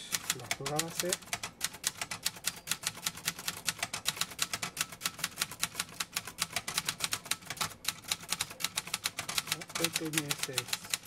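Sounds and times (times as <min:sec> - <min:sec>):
mechanical typewriter typing: 0:00.0 - 0:11.0.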